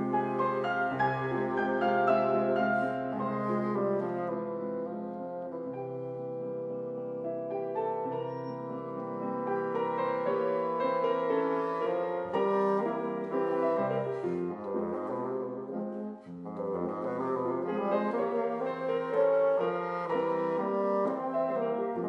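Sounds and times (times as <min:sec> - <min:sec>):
bassoon melody: 0:00.0 - 0:22.0
piano accompaniment: 0:00.0 - 0:22.0.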